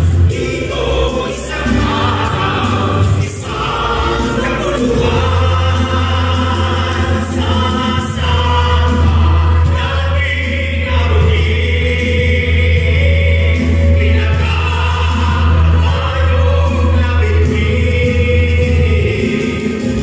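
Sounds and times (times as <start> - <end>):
backing music with strong bass: 0.0 - 20.0
cast singing a choral number: 0.0 - 20.0.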